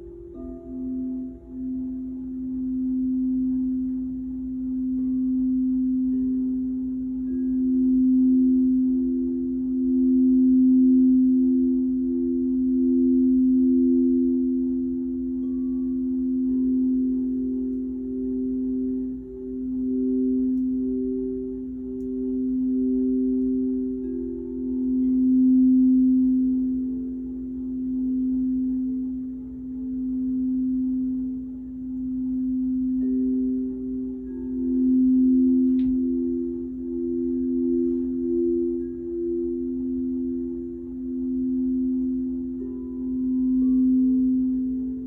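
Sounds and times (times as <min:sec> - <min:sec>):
higher singing bowl tone: 0:00.0 - 0:45.0
low singing bowl tone: 0:00.0 - 0:45.0.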